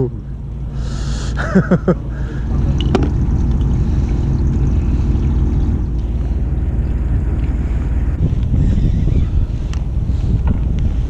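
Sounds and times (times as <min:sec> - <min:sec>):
boat engine rumble: 0:00.0 - 0:11.0
faint hum: 0:00.0 - 0:11.0.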